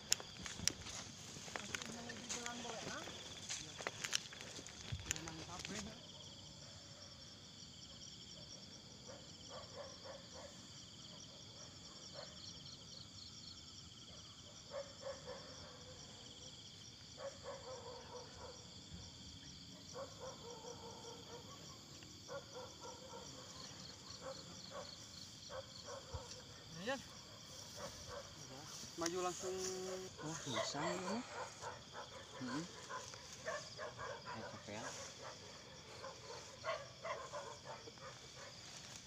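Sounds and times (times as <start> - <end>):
crickets trilling: 0.0 - 39.0.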